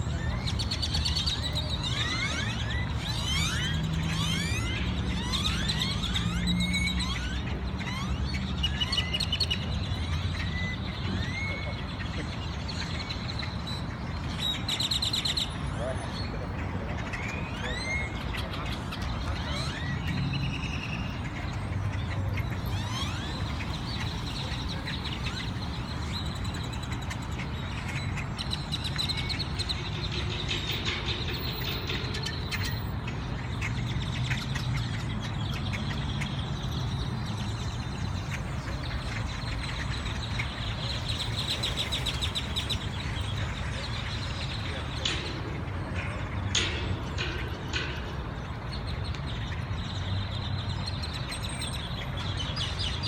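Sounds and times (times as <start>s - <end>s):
birds calling and chirping: 0.0s - 53.0s
low rumble of traffic: 0.0s - 53.0s.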